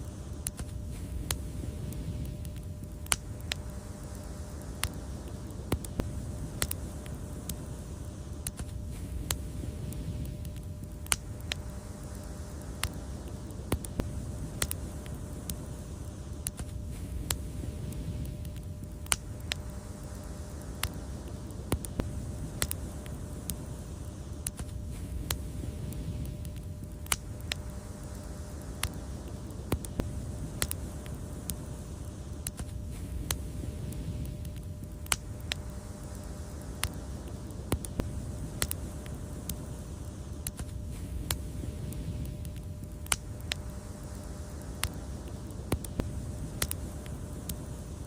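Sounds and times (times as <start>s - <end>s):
fire crackling pops and snaps: 0.0s - 48.0s
fire flame rumble: 0.0s - 48.0s.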